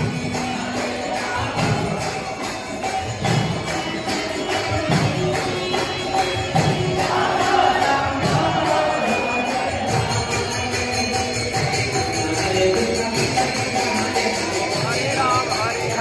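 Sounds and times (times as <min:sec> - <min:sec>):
drum beats: 0:00.0 - 0:16.0
hand cymbals and bells jingling: 0:00.0 - 0:16.0.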